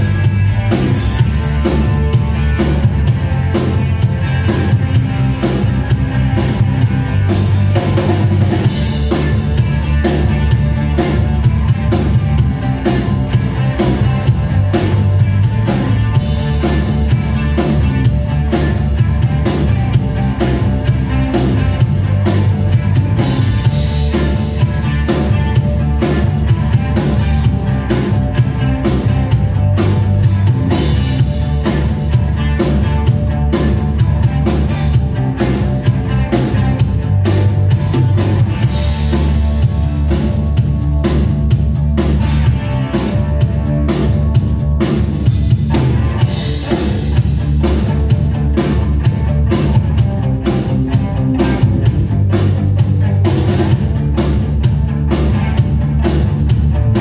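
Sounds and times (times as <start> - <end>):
bass guitar: 0.0 - 57.0
drum kit beat: 0.0 - 57.0
electric guitar: 0.0 - 57.0.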